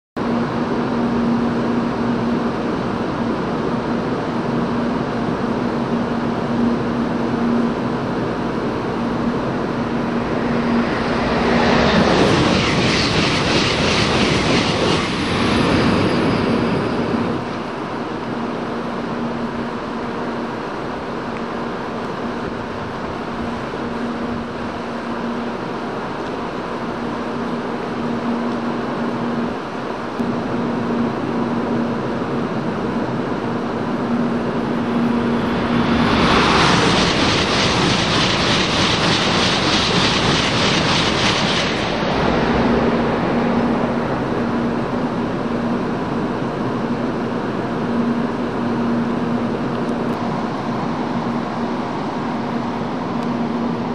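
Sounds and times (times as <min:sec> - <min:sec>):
steady whirring noise: 0:00.2 - 0:53.9
train passing at speed: 0:00.2 - 0:53.9
low hum: 0:04.2 - 0:25.2, 0:27.6 - 0:53.9.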